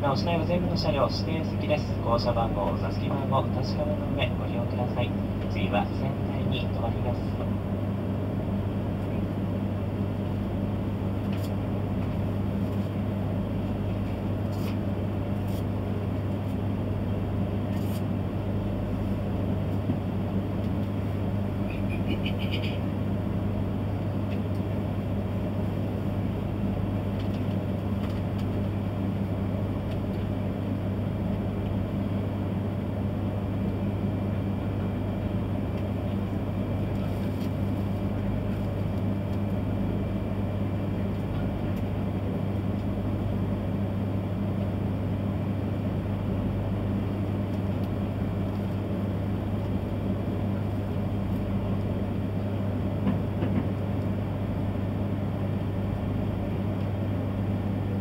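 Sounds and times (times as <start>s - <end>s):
train interior low hum: 0.0s - 58.0s.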